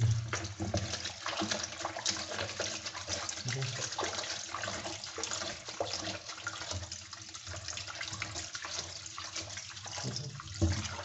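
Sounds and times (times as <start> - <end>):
tap water running into basin: 0.0 - 11.0.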